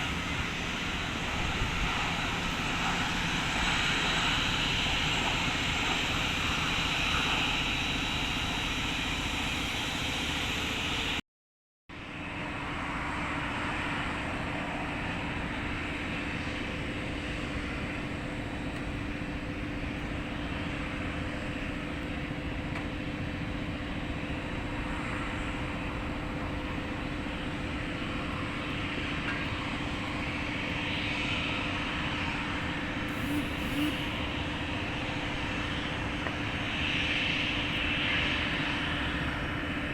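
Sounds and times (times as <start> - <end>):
jet engines rumbling: 0.0 - 11.2, 12.2 - 39.9.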